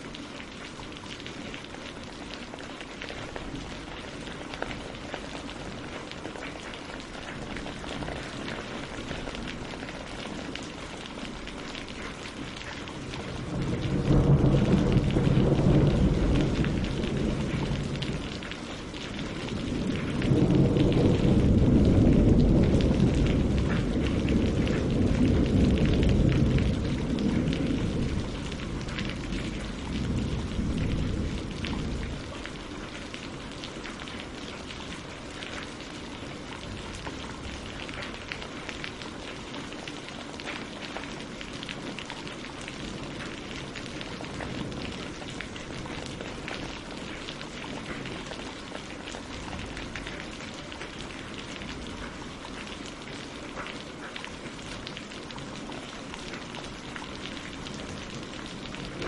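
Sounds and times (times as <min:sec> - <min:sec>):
rain on lake and leaves: 0:00.0 - 0:59.0
thunder rumbling: 0:03.2 - 0:39.0, 0:40.6 - 0:52.7, 0:56.8 - 0:59.0.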